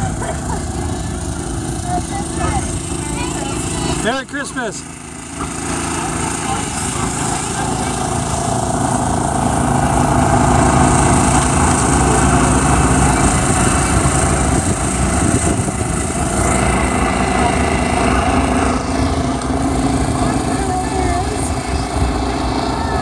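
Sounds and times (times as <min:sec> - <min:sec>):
boat engine passing: 0:00.0 - 0:23.0.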